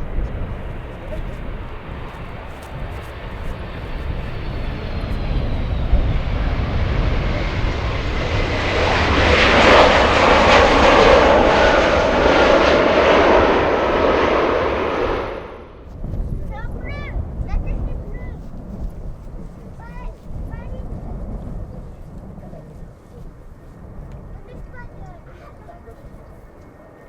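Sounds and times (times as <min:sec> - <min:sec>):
jet airliner engines roaring: 0:00.0 - 0:27.0.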